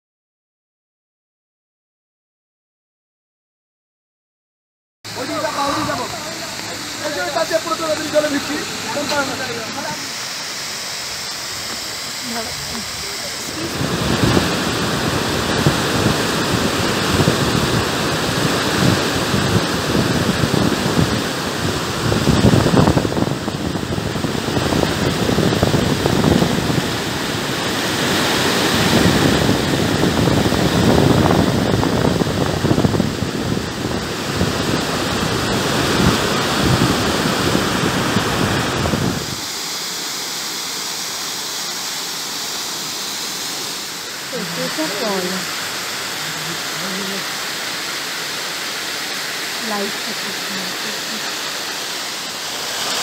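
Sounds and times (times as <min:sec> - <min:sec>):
waterfall and stream rushing: 0:05.1 - 0:53.0.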